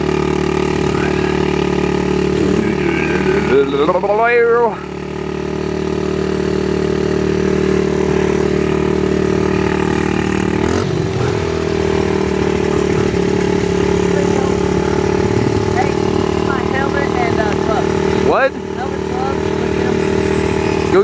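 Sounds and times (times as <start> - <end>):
small off-road engine idling: 0.0 - 21.0.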